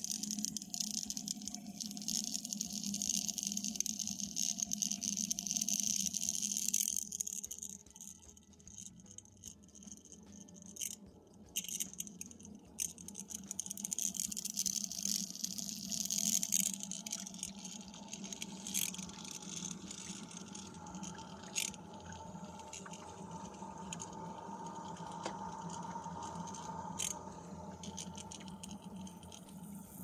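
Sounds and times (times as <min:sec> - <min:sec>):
coolant hissing and trickling: 0:00.0 - 0:07.8, 0:11.9 - 0:30.0
steady hum: 0:00.0 - 0:30.0.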